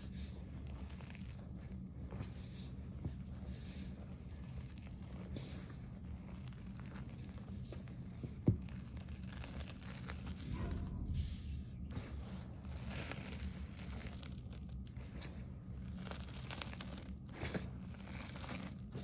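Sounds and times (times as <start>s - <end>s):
hands crunching chalk powder: 0.0s - 19.0s.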